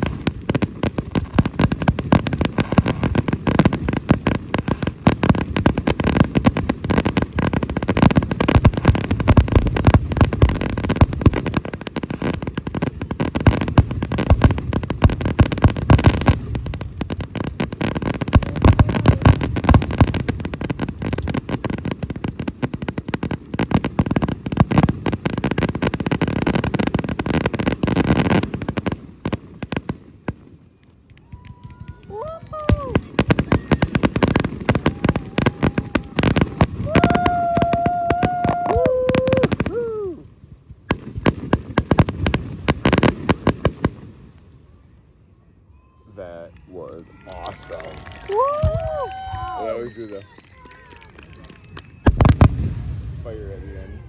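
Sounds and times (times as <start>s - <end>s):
fireworks bangs and crackling: 0.0s - 45.0s, 45.8s - 54.0s.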